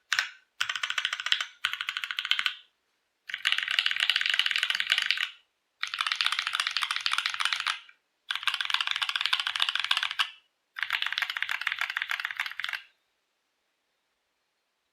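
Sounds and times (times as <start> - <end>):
mechanical keyboard typing: 0.0 - 2.7, 3.3 - 12.9.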